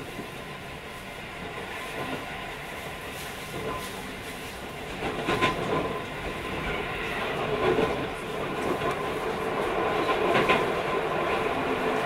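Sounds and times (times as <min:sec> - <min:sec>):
train wheels rumbling on rail: 0:00.0 - 0:12.0
rail clack: 0:01.4 - 0:12.0.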